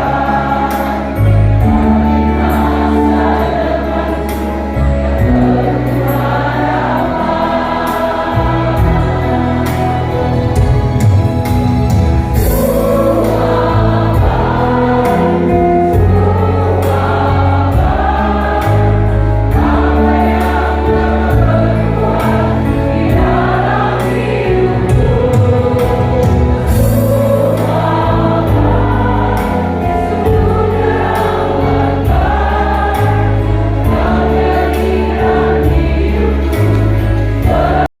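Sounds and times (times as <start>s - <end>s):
instrumental accompaniment: 0.0s - 37.9s
mixed choir singing in parts: 0.0s - 37.9s
sustained bass notes: 0.0s - 37.9s.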